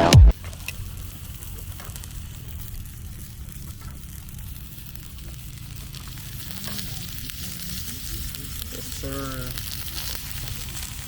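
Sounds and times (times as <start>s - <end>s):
food sizzling and crackling: 0.2s - 11.0s.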